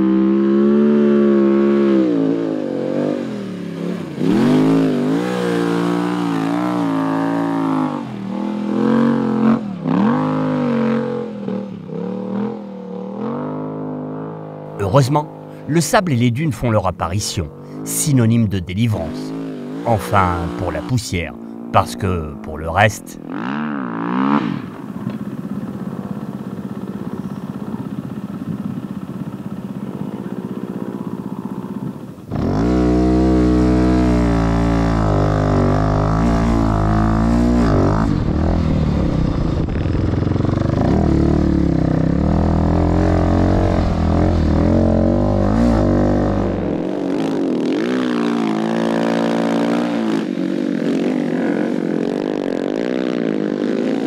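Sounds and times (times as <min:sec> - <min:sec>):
motorcycle engine revving: 0:00.0 - 0:15.7, 0:16.6 - 0:54.0.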